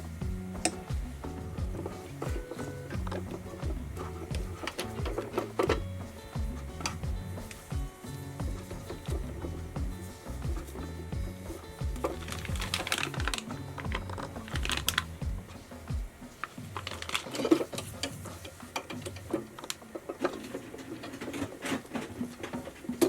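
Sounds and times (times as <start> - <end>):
background music: 0.0 - 20.4.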